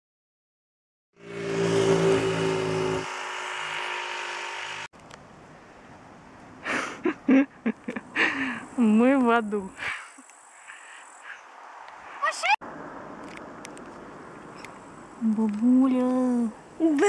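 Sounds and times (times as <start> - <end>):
outdoor background noise: 1.2 - 17.0
vehicle engine and road noise: 1.2 - 17.0.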